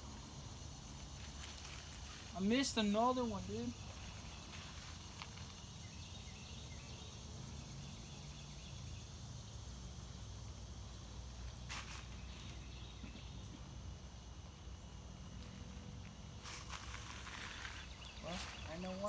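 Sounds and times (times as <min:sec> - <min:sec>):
insects hissing: 0:00.0 - 0:19.0.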